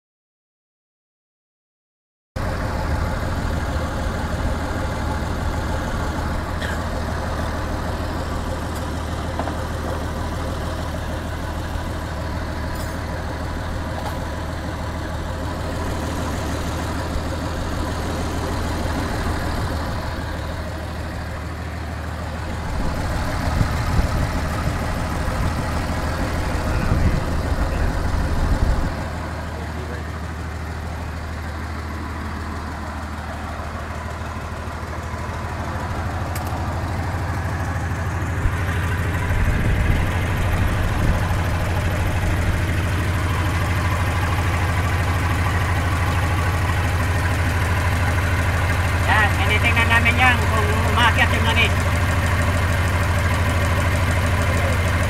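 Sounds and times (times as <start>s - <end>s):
engine idling: 2.4s - 55.0s.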